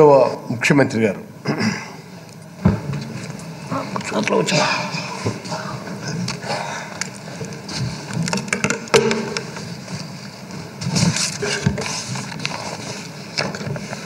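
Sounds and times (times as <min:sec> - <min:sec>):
low murmur and rustle: 0:00.0 - 0:14.0.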